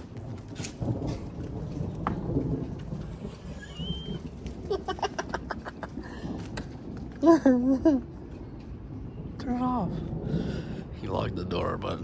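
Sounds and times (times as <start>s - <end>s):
rain falling: 0.0s - 12.0s
thunder rumbling: 0.0s - 12.0s.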